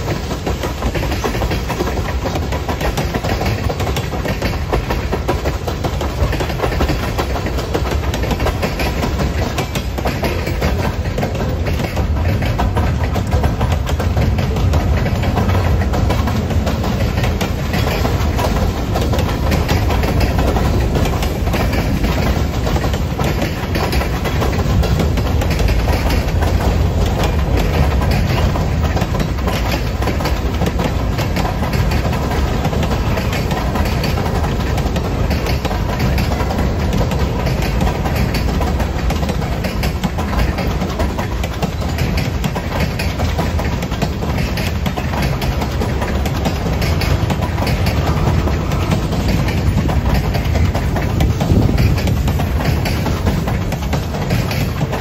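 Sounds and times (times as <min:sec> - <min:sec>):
train wheels rumbling on rail: 0:00.0 - 0:55.0
wheel clicks and knocks: 0:00.0 - 0:55.0.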